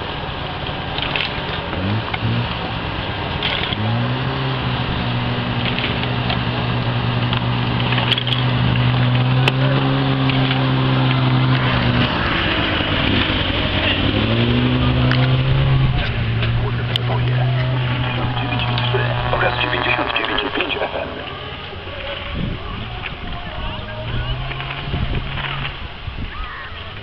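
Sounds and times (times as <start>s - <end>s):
engine revving: 0.0s - 26.1s.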